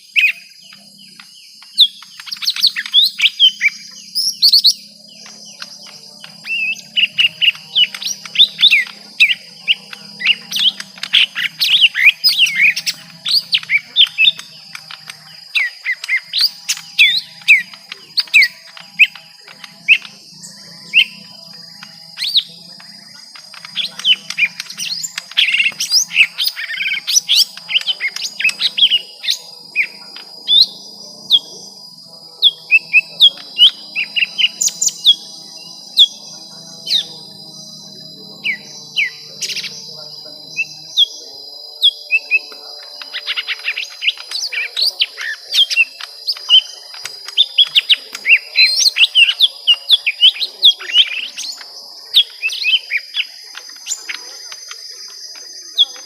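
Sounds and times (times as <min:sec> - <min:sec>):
birds chirping and whistling: 0:00.0 - 0:56.0
steady high whine: 0:00.0 - 0:56.0.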